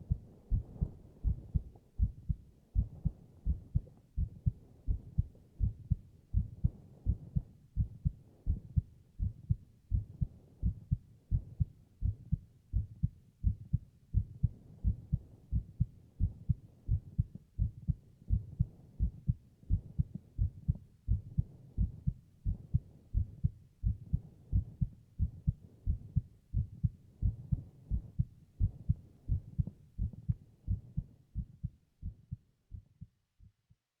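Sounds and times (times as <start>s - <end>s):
heartbeat thumps: 0.0s - 33.7s.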